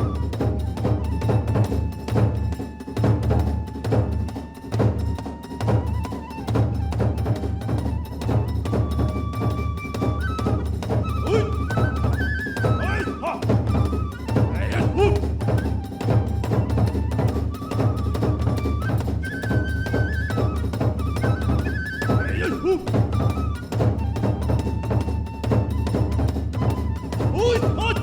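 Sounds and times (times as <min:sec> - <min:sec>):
continuous drumming: 0:00.0 - 0:28.0
transverse flute playing high notes: 0:00.0 - 0:28.0.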